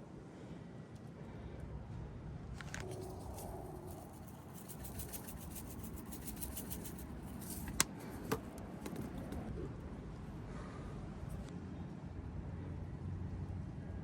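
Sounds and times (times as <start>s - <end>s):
low background rumble: 0.3s - 14.0s.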